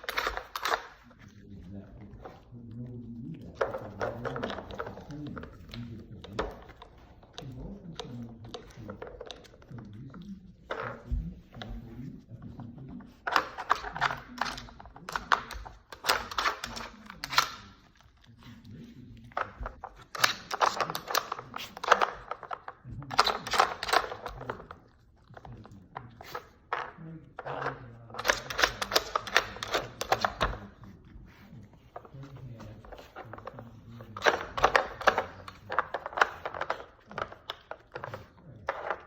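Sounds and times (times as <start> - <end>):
quiet talking: 0.0 - 39.0.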